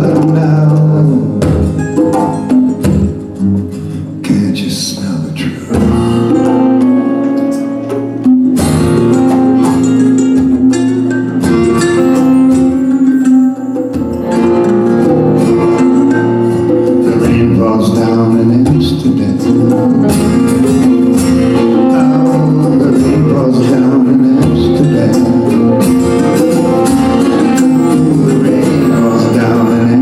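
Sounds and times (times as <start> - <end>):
djembe: 0.0 - 3.7, 5.7 - 30.0
acoustic guitars strumming: 0.0 - 30.0
mandolin: 0.0 - 30.0.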